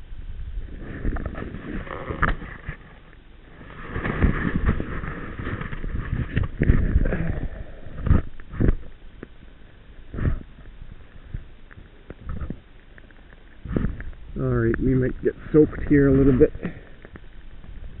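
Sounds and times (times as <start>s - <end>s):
wind rumble on microphone: 0.0s - 18.0s
rustle of movement: 0.5s - 18.0s.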